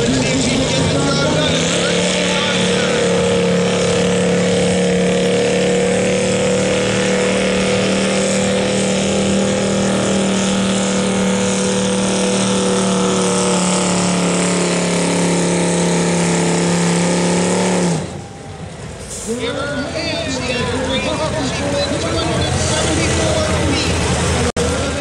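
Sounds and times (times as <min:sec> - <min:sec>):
truck engine running loud: 0:00.0 - 0:25.0.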